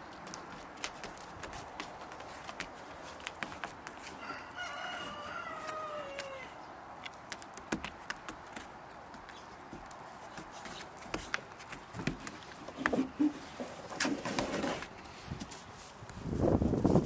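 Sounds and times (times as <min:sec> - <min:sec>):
hooves tapping on roof: 0:00.0 - 0:15.6.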